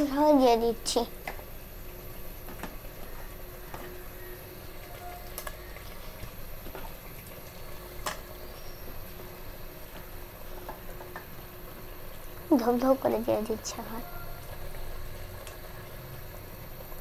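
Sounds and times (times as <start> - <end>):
curry sizzling and bubbling: 0.0 - 17.0.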